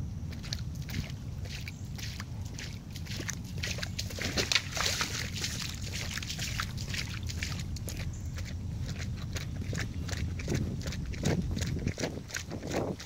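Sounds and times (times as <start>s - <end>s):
steady low rumble: 0.0s - 13.0s
footsteps splashing through water: 0.3s - 13.0s.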